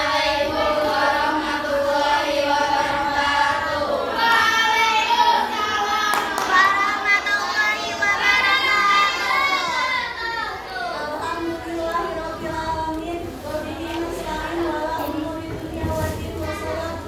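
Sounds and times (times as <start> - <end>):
girls singing in unison: 0.0 - 17.0.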